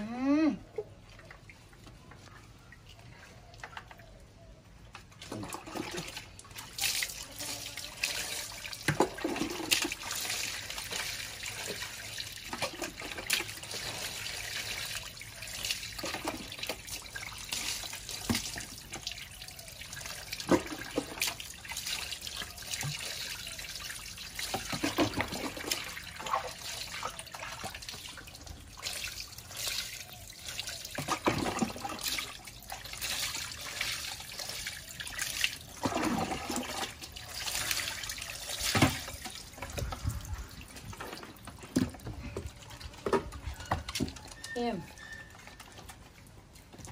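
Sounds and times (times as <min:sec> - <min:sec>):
water splashing on concrete floor: 0:05.2 - 0:46.9.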